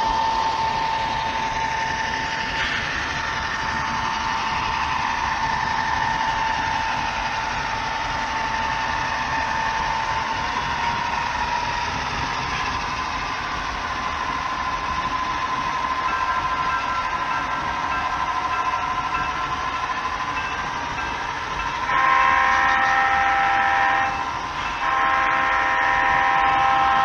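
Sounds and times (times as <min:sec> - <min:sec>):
model locomotive diesel engine: 0:00.0 - 0:27.0.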